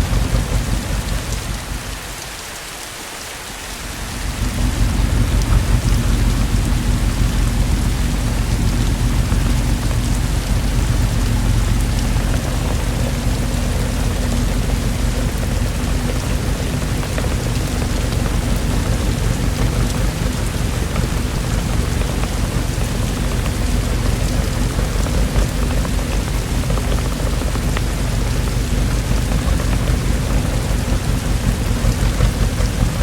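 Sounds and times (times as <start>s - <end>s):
continuous low rumble: 0.0s - 33.0s
heavy rainfall: 0.0s - 33.0s.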